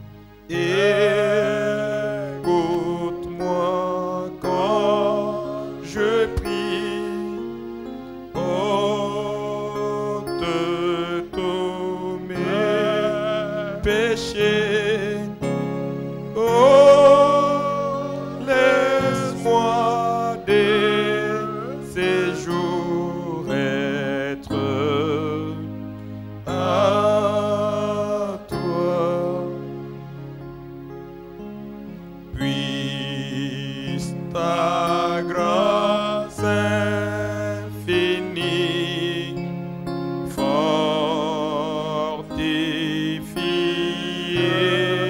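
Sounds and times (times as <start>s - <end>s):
held instrumental chords: 0.0s - 45.0s
person singing: 0.4s - 7.6s, 8.3s - 15.6s, 16.2s - 30.0s, 32.3s - 45.0s.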